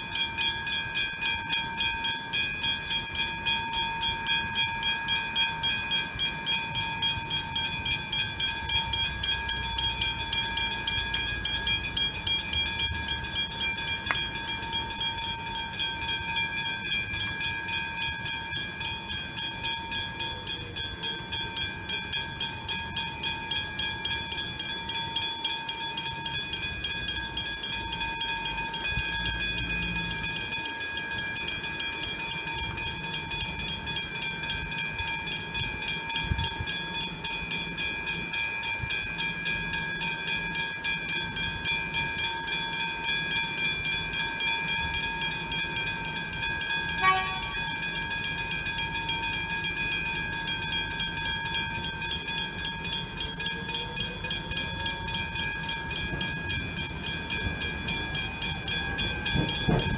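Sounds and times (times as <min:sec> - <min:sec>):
level-crossing bells ringing: 0:00.0 - 0:59.9.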